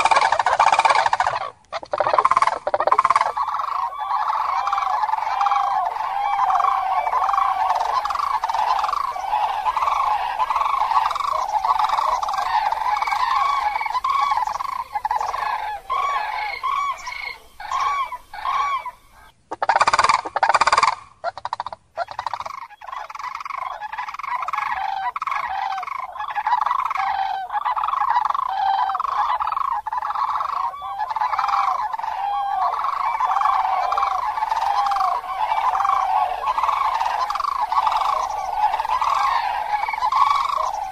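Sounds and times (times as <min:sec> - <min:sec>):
harsh crane call bursts: 0:00.0 - 0:21.0, 0:22.5 - 0:40.9
cranes trumpeting calls: 0:00.0 - 0:40.9.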